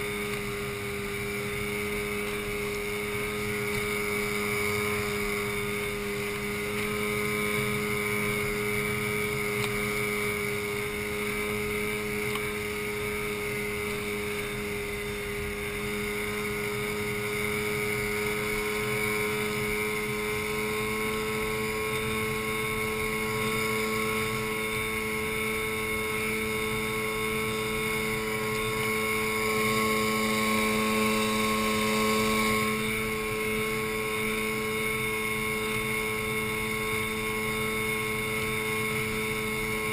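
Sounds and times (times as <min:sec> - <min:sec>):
outboard motor drone: 0:00.0 - 0:39.9.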